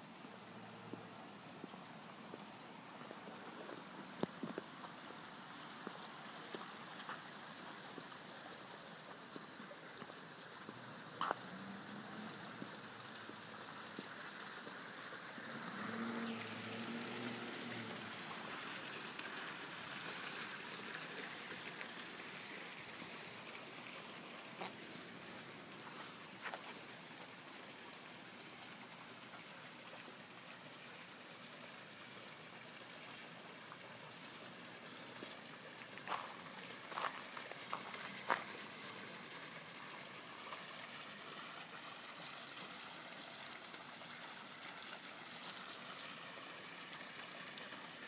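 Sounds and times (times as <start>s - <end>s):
water running over rocks: 0.0s - 48.0s.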